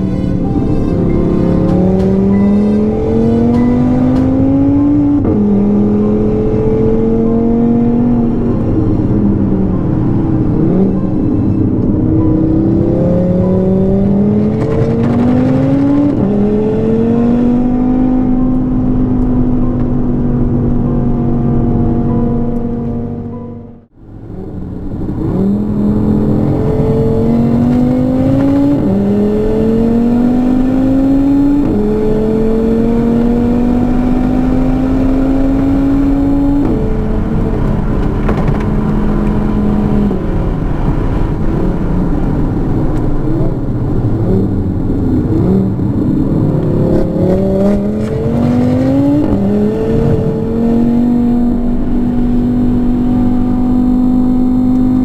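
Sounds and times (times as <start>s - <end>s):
car engine accelerating and shifting: 0.0s - 55.0s.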